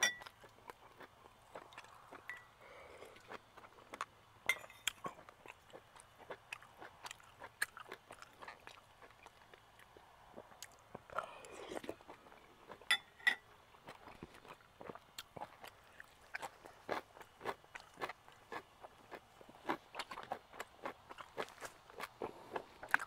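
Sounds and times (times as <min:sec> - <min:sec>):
chewing and mouth smacking: 0:00.2 - 0:04.1, 0:04.8 - 0:12.9, 0:13.7 - 0:23.0.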